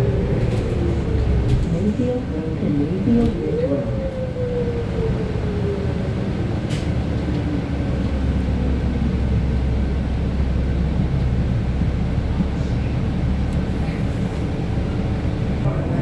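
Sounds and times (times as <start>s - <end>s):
bus cabin drive rumble: 0.0s - 16.0s.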